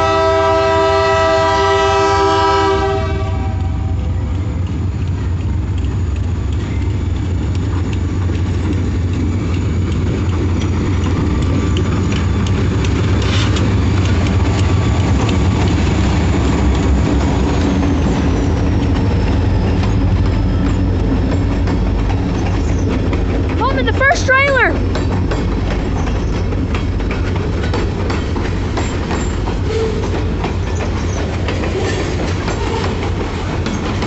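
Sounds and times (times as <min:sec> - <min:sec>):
diesel locomotive rumble: 0:00.0 - 0:34.0
train clanks: 0:00.0 - 0:34.0.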